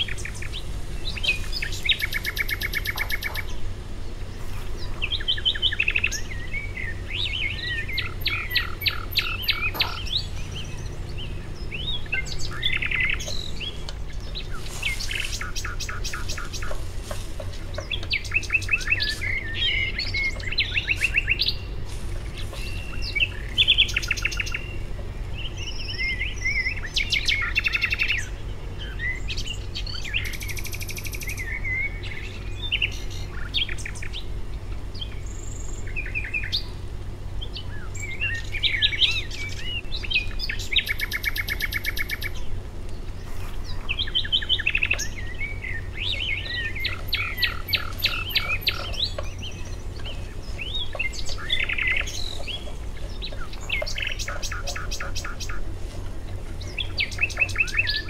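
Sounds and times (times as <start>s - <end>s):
birds chirping and trilling: 0.0s - 58.0s
steady low hum: 0.0s - 58.0s.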